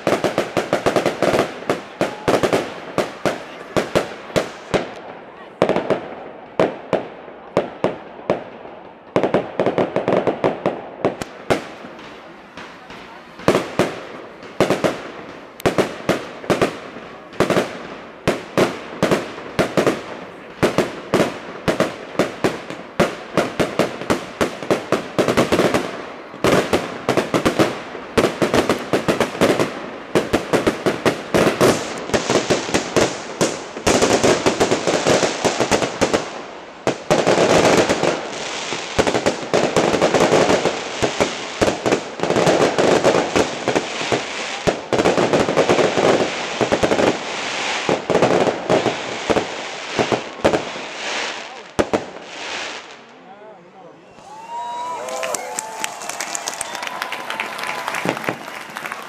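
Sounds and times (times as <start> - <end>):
fireworks bangs: 0.0 - 53.2, 54.1 - 59.0
fireworks crackling barrage: 0.0 - 59.0.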